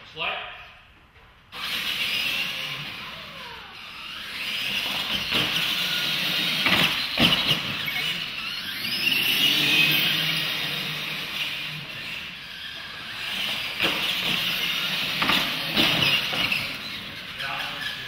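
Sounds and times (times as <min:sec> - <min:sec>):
toy truck motors whining: 0:01.5 - 0:18.0.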